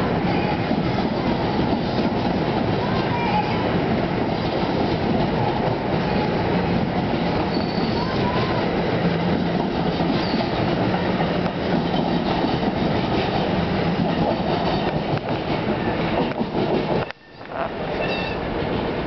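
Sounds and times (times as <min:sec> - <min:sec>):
faint train rumble: 0:00.0 - 0:19.0
train wheels clattering on rails: 0:00.0 - 0:19.0.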